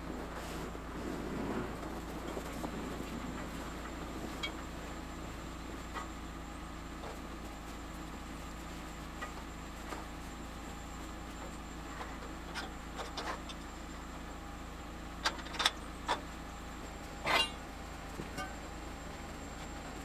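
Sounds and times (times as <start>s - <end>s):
log splitter humming: 0.0s - 20.0s.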